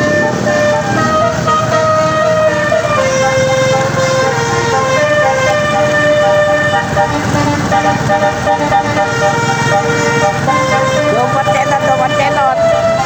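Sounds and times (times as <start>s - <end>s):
bus musical horn playing a tune: 0.0s - 13.0s
low engine rumble: 0.0s - 13.0s.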